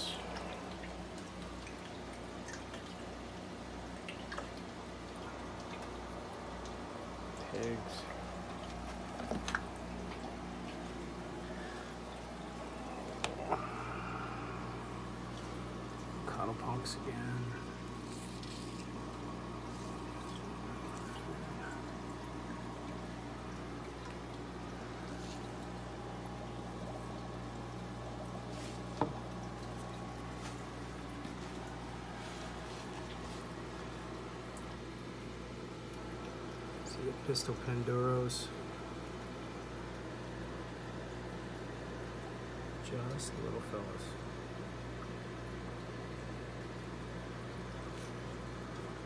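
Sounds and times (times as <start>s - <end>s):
aquarium water trickling and bubbling: 0.0s - 49.0s
faint water drips: 0.0s - 49.0s
steady low hum: 0.0s - 49.0s.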